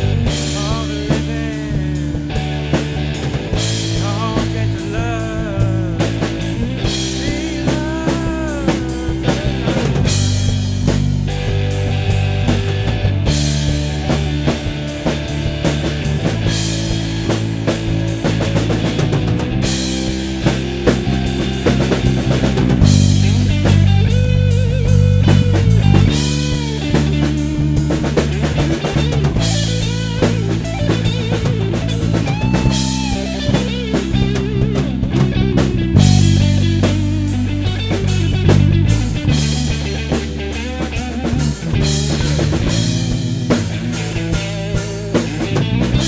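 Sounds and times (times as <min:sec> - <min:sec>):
bass guitar: 0:00.0 - 0:46.0
drum kit: 0:00.0 - 0:46.0
guitar with bending notes: 0:00.0 - 0:46.0.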